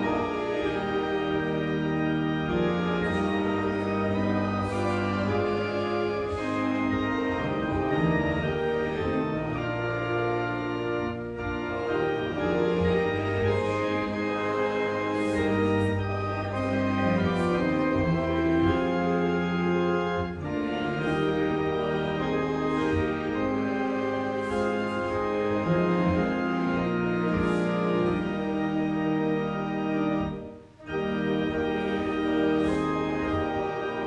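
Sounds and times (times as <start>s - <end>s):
church organ chords: 0.0s - 34.0s.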